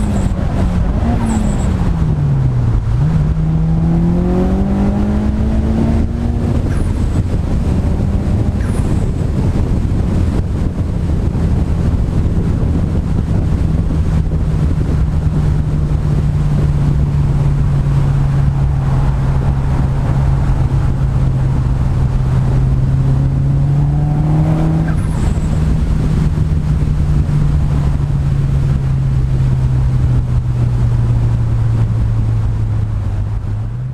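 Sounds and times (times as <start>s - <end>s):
car engine running: 0.0s - 33.9s
road rumble: 0.0s - 33.9s
wind noise: 0.0s - 33.9s.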